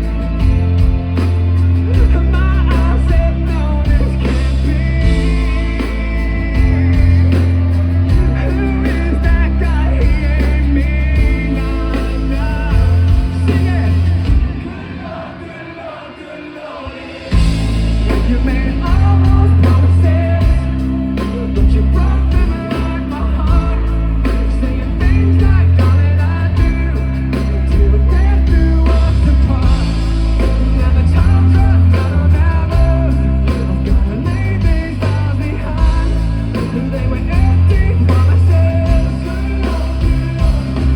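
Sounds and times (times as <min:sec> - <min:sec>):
person singing: 0:00.0 - 0:40.9
rock band playing live: 0:00.0 - 0:40.9.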